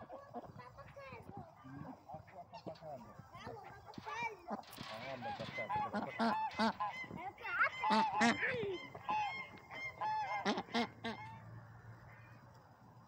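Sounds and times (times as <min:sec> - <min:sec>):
ducks calling: 0:00.0 - 0:13.0.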